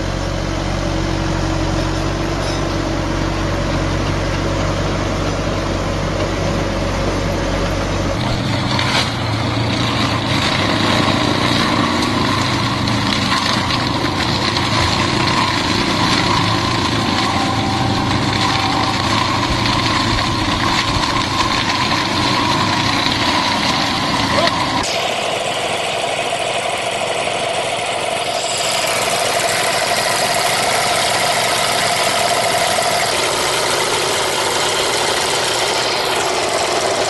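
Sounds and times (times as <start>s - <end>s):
heavy machinery engine running: 0.0s - 37.0s.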